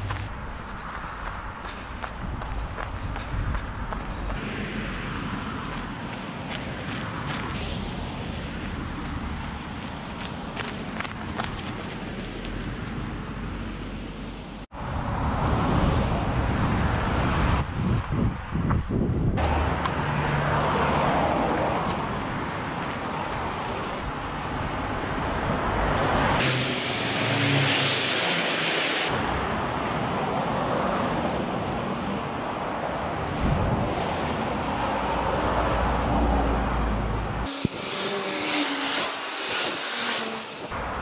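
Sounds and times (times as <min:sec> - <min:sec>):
cars passing on road: 0:00.0 - 0:41.0.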